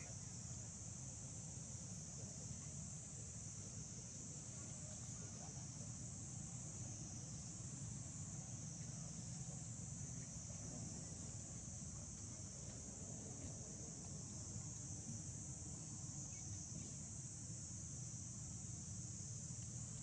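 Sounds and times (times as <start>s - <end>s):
insect chorus buzzing: 0.0s - 20.0s.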